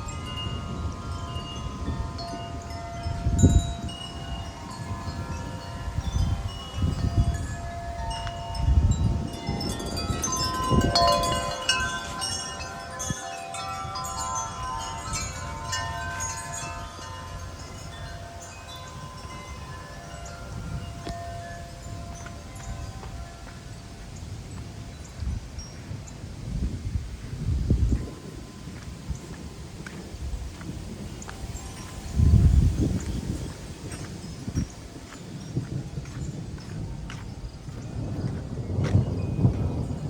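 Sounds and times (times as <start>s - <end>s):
wind chimes ringing: 0.0s - 40.0s
wind gusts hitting microphone: 0.0s - 40.0s.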